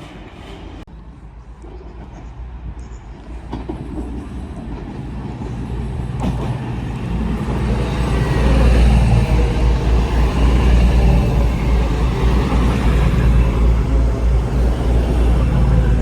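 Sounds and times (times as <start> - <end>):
train approaching: 0.0 - 16.0.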